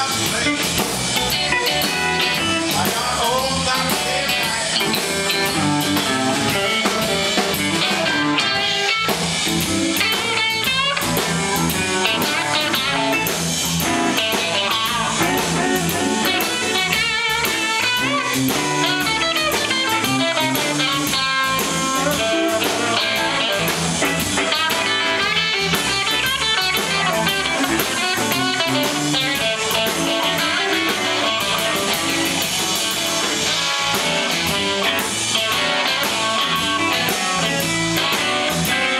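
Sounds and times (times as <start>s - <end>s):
blues-rock band playing: 0.0s - 38.9s
electric guitar lead lines: 0.0s - 38.9s.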